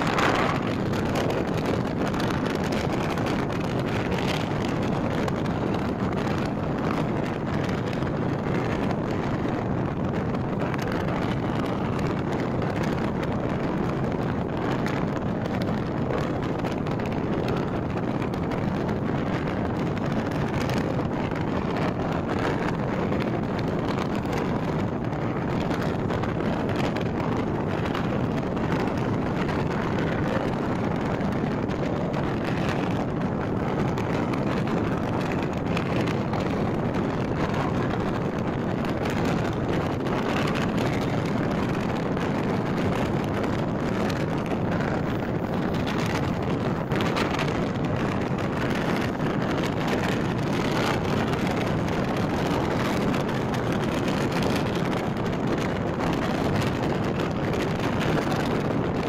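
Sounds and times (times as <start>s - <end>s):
train running at speed: 0.0s - 59.0s
wind rushing over microphone: 0.0s - 59.0s.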